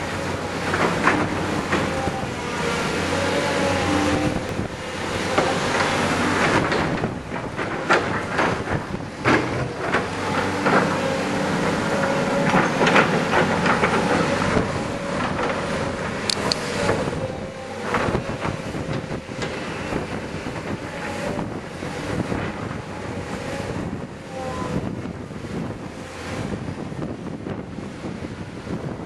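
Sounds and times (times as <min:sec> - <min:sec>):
excavator engines humming: 0:00.0 - 0:29.0
wind buffeting microphone: 0:00.0 - 0:29.0.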